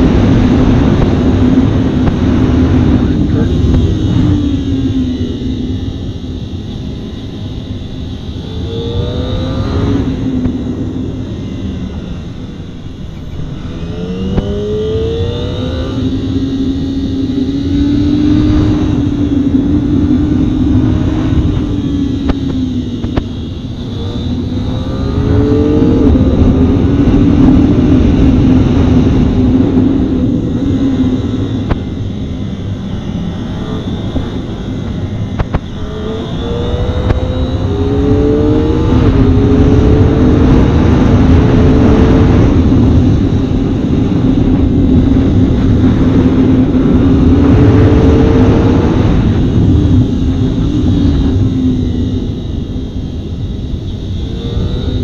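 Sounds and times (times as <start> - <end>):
heavy wind noise: 0.0 - 55.0
motorcycle engine revving: 0.0 - 55.0.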